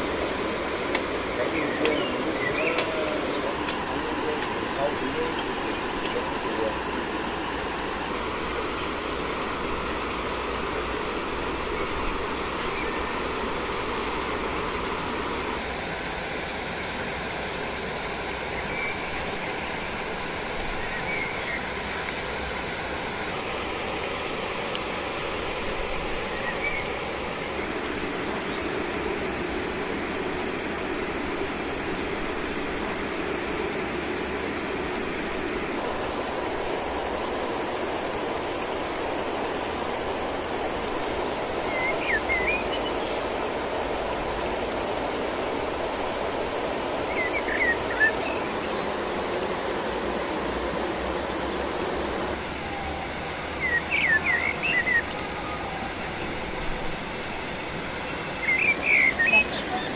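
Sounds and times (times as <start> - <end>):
high thin whine: 0.0 - 59.9
rushing outdoor background noise: 0.0 - 59.9.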